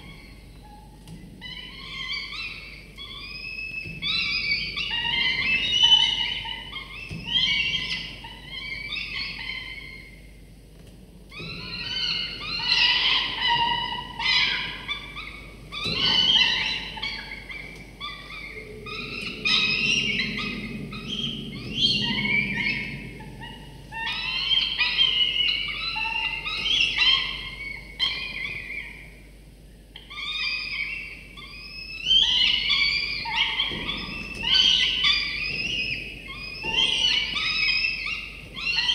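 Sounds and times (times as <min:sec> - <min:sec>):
falcon chicks begging calls: 0:01.4 - 0:10.2, 0:11.4 - 0:29.1, 0:30.0 - 0:38.9.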